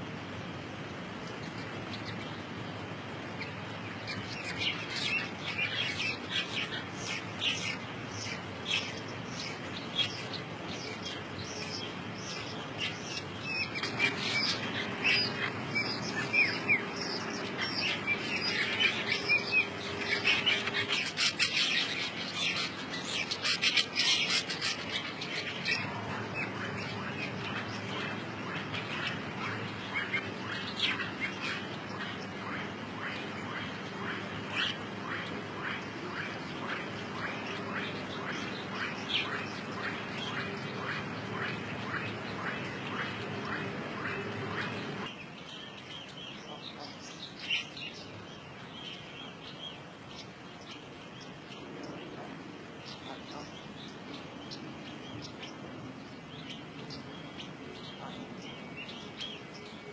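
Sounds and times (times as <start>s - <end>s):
birds chattering: 1.0s - 59.9s.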